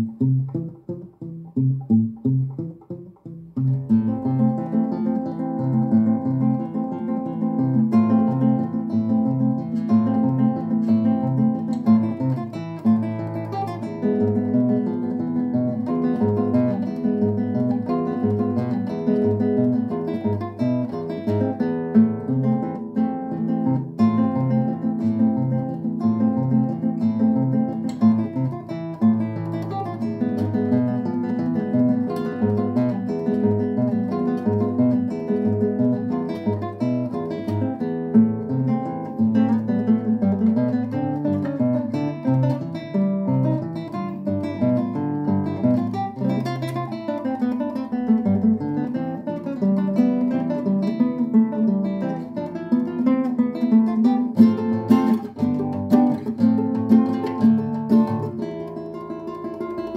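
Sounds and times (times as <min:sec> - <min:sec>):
classical guitar fingerstyle: 0:00.0 - 0:59.9.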